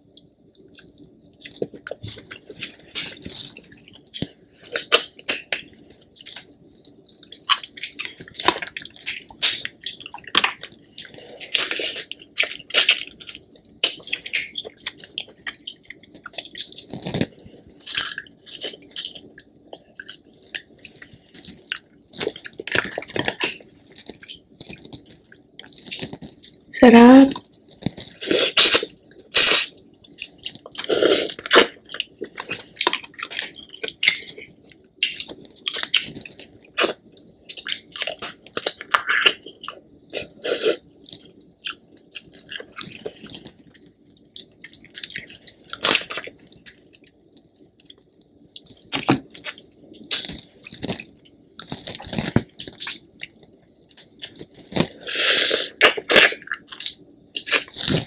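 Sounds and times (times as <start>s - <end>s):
person chewing: 0.1s - 26.7s, 27.3s - 58.0s.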